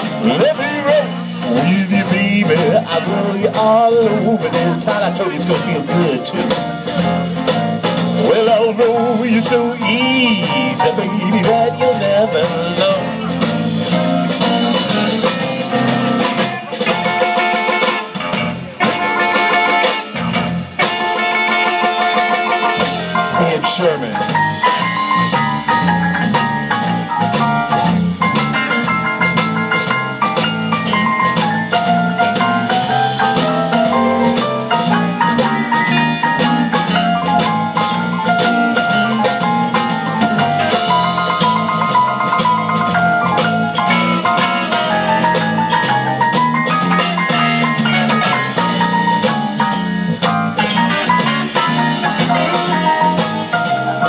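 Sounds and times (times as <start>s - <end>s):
bass line: 0.0s - 54.0s
drum kit beat: 0.0s - 54.0s
electric guitar: 0.0s - 54.0s
keyboards: 0.0s - 54.0s.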